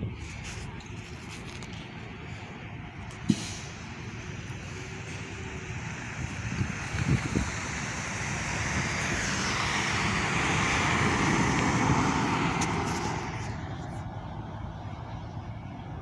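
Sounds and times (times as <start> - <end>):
bus driving past: 0.0 - 16.0.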